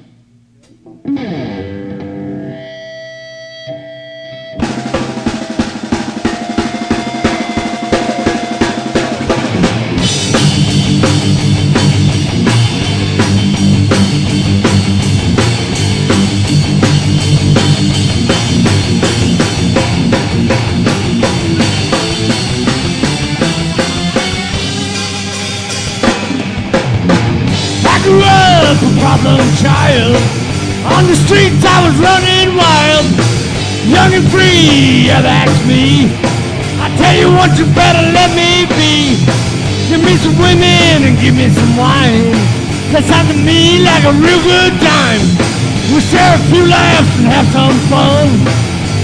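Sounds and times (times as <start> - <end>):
electric guitar chords: 0.0 - 49.0
rock band playing: 0.0 - 49.0
drum kit beat: 4.6 - 49.0.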